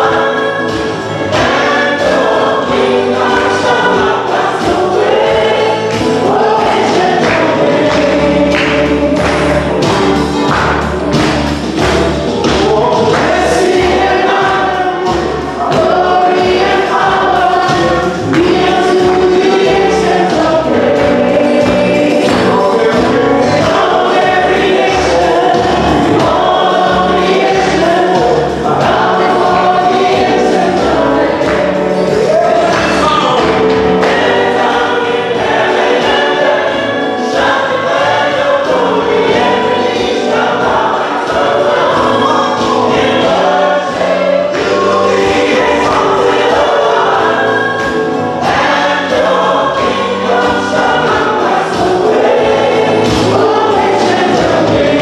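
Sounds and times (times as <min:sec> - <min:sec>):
gospel choir singing: 0:00.0 - 0:55.0
rhythmic band accompaniment: 0:00.0 - 0:55.0.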